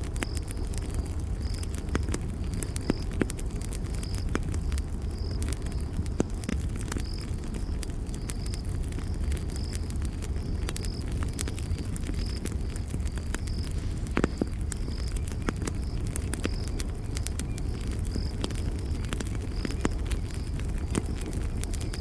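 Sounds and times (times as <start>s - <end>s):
campfire crackling and popping: 0.0s - 22.0s
cricket chirping: 0.1s - 22.0s.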